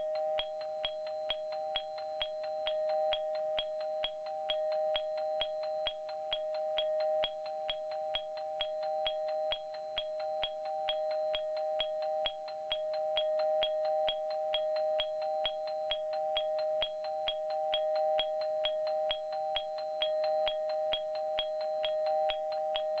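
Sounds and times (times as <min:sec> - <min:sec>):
two-tone warning chime: 0:00.0 - 0:23.0.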